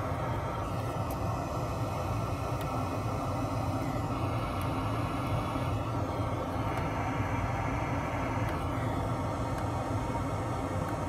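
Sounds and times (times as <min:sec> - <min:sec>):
mechanical hum and rumble: 0:00.0 - 0:11.0.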